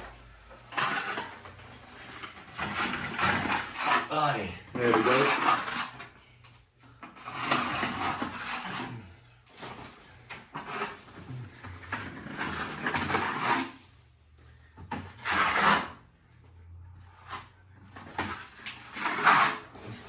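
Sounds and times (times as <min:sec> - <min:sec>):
drywall knife scraping compound: 0:00.0 - 0:16.3, 0:16.9 - 0:20.0.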